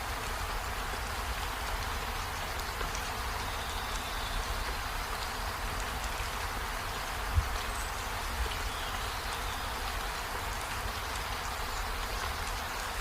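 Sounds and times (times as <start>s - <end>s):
rain on leaves and window: 0.0s - 13.0s
drips ticking: 0.2s - 13.0s.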